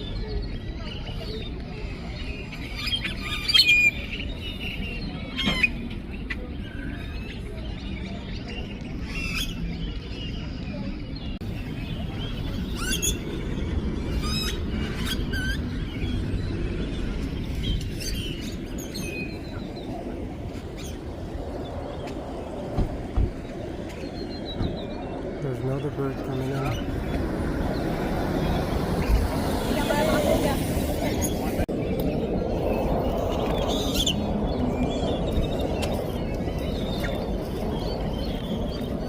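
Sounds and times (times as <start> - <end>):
flock of birds chirping: 0.0 - 39.0.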